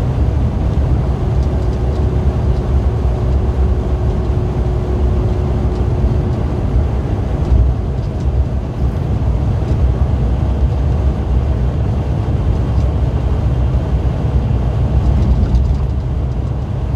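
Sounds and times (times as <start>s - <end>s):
road and engine rumble: 0.0s - 16.9s.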